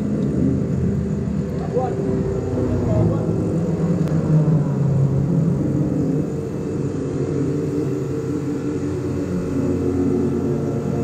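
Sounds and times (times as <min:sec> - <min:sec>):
race engine buzzing drone: 0:00.0 - 0:11.0.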